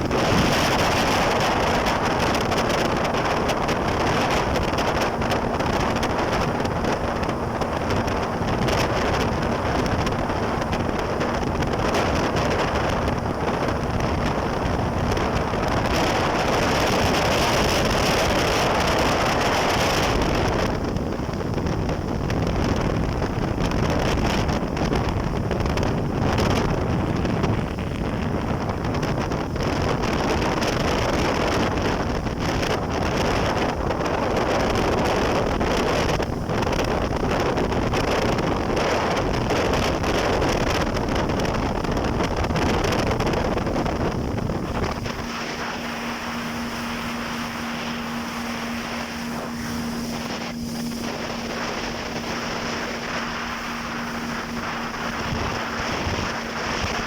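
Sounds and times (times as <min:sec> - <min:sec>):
jet ski engine: 0:00.0 - 0:57.0
rushing water: 0:00.0 - 0:57.0
wind buffeting microphone: 0:00.0 - 0:57.0.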